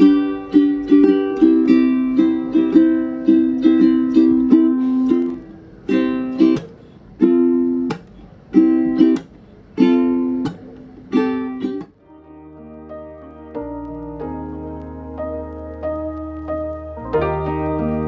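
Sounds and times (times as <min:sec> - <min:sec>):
strummed string chords: 0:00.0 - 0:18.0.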